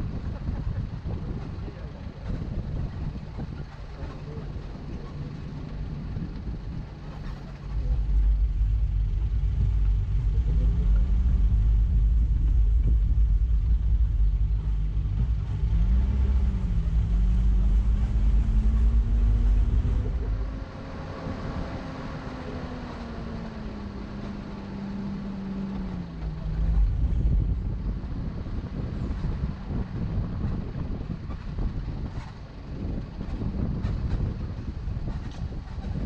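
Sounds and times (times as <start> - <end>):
car engine running: 0.0 - 36.0
heavy low rumble: 0.0 - 36.0.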